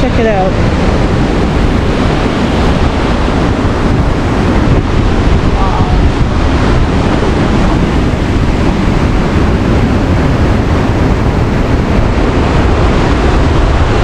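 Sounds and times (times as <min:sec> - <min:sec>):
surf washing on beach: 0:00.0 - 0:14.0
wind buffeting microphone: 0:00.0 - 0:14.0.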